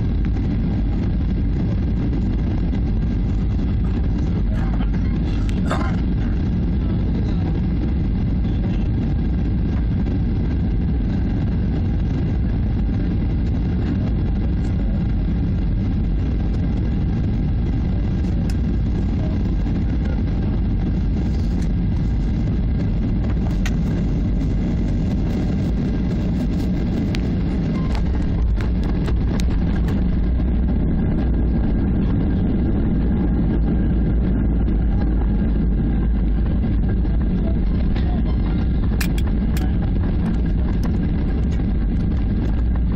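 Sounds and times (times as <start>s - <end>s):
jet engine rumble in cabin: 0.0s - 42.9s.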